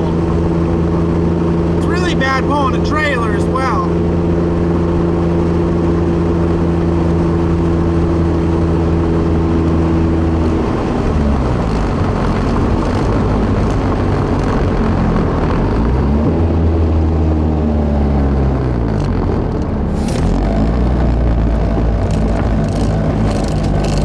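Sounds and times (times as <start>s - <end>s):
turbocharged car engine revving: 0.0s - 24.0s.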